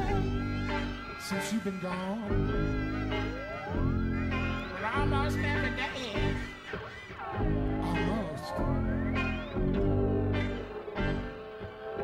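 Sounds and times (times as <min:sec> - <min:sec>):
live band with guitar and trumpet: 0:00.0 - 0:12.0
rising pitch glide: 0:00.0 - 0:12.0.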